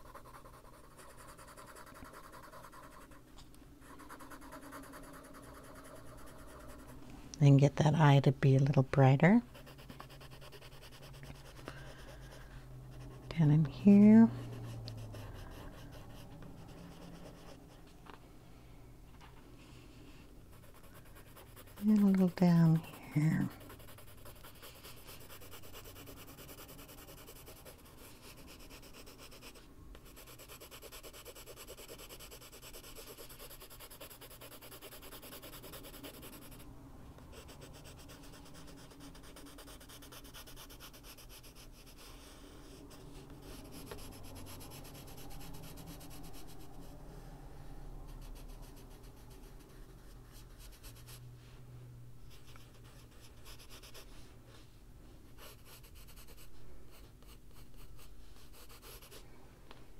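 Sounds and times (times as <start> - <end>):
coloured pencil scratching on paper: 0.0 - 8.2, 8.9 - 17.8, 20.5 - 36.7, 37.3 - 46.9, 48.1 - 51.2, 52.3 - 54.3, 55.3 - 59.2.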